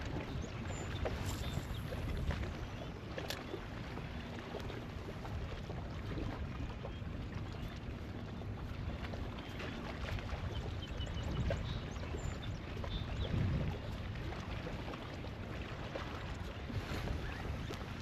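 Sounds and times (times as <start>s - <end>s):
water lapping against kayak hull: 0.0s - 18.0s
wind rumbling on microphone: 0.0s - 18.0s.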